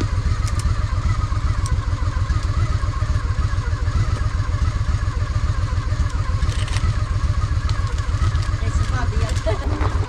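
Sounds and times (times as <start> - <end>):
motorcycle engine idling low: 0.0 - 10.0.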